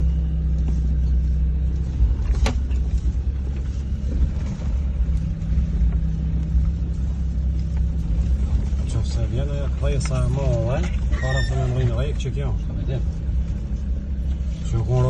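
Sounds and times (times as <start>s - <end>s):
car engine running off-road: 0.0s - 15.0s.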